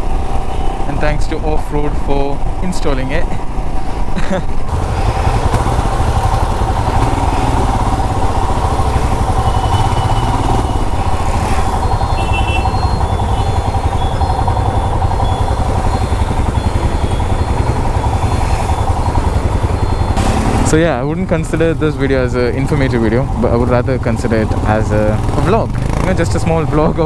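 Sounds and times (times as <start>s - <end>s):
motorcycle engine idling: 4.7s - 27.0s
high-pitched traffic tones: 5.0s - 27.0s.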